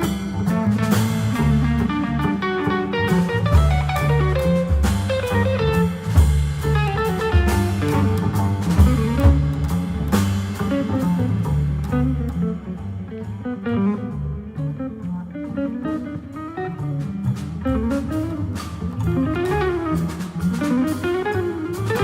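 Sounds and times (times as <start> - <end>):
guitar: 0.0 - 22.0
jazz band playing: 0.0 - 22.0.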